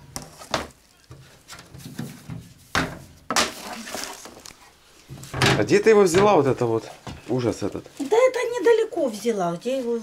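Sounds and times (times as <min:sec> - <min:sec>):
rustling: 0:00.0 - 0:10.0.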